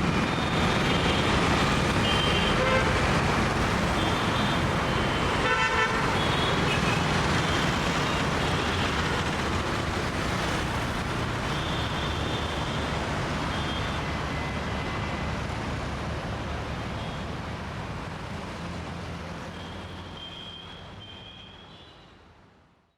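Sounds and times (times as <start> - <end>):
road traffic: 0.0 - 22.9.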